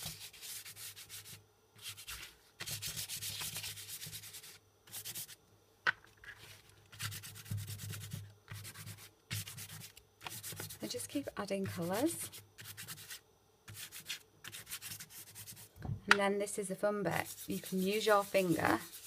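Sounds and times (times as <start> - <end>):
chalk pastel scratching on paper: 0.0 - 5.4, 6.9 - 15.7, 17.1 - 19.0.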